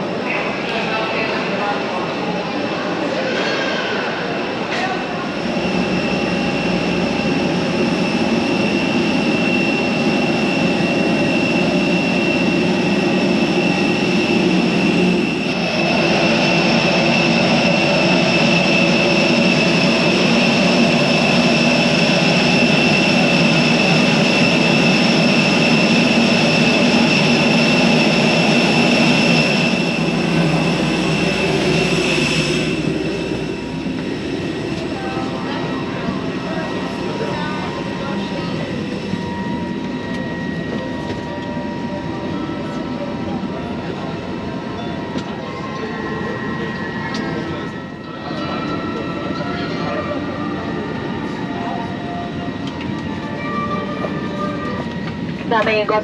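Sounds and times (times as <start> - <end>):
airport ramp noise with high whine: 0.0 - 56.0.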